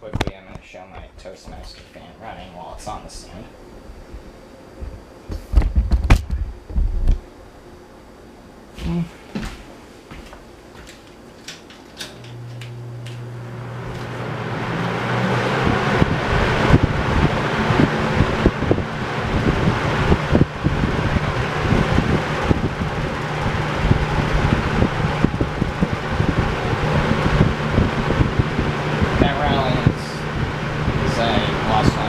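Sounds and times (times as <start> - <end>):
air buffeting microphone: 0.0 - 7.3, 12.2 - 32.0
box fan running: 0.0 - 32.0.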